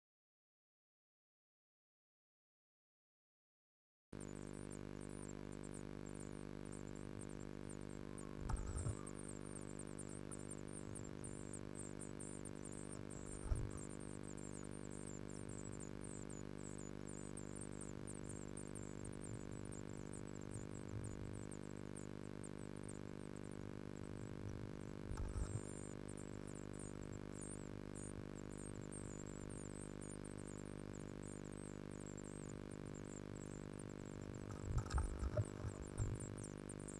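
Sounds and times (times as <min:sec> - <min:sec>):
electrical hum: 0:04.2 - 0:36.9
nestlings chittering: 0:06.2 - 0:36.9.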